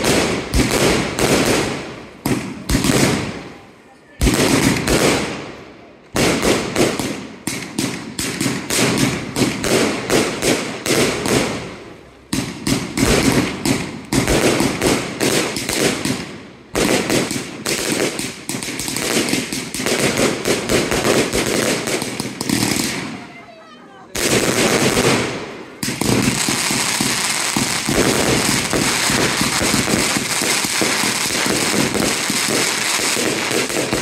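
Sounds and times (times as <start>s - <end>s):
fireworks shots and bursts: 0.0s - 34.0s.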